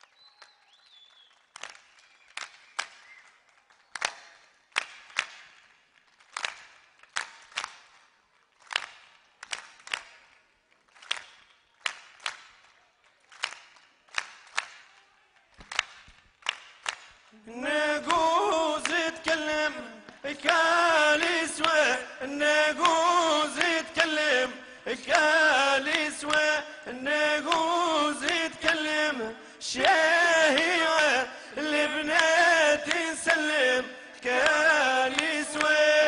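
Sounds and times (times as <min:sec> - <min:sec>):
rhythmic hand claps: 0:00.0 - 0:36.0.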